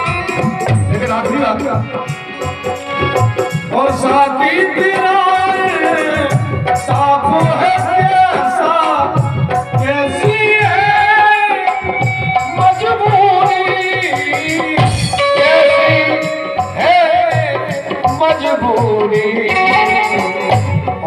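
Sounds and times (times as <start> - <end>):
keyboard: 0.0 - 21.0
man singing: 0.0 - 21.0
percussion rhythm: 0.0 - 21.0.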